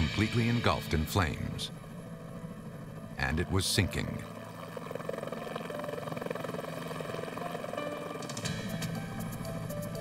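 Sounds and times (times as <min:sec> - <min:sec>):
background music: 0:00.0 - 0:10.0
helicopter rotor chop: 0:00.0 - 0:10.0
low drone with high ticks: 0:00.0 - 0:10.0.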